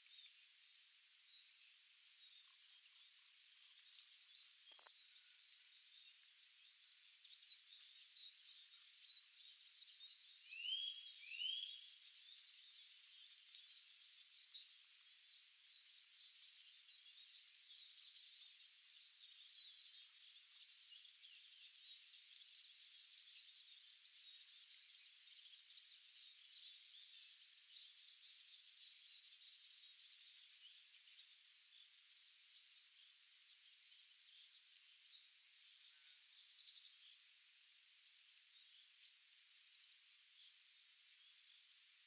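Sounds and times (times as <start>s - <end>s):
distant songbirds chirping: 0.0s - 42.0s.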